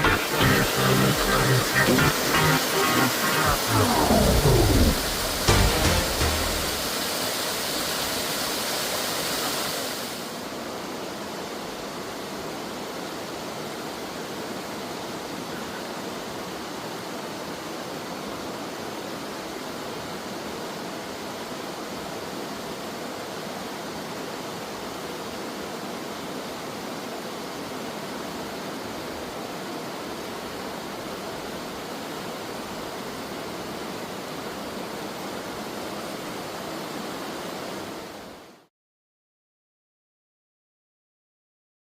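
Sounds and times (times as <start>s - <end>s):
stream rushing over rocks: 0.0s - 38.7s.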